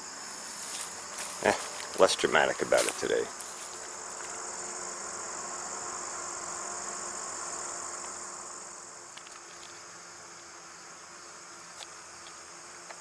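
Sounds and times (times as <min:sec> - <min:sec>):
high-pitched insect chorus: 0:00.0 - 0:13.0
low buzzing: 0:00.0 - 0:13.0.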